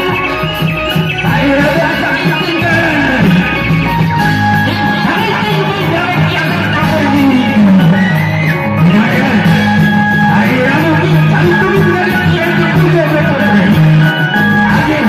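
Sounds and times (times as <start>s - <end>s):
loud music over loudspeakers: 0.0s - 15.0s
person singing: 0.0s - 15.0s.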